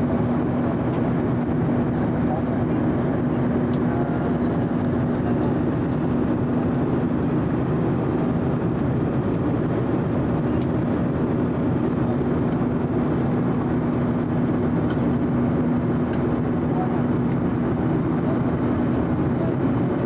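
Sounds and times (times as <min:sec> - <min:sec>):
engine and airflow rush: 0:00.0 - 0:20.0.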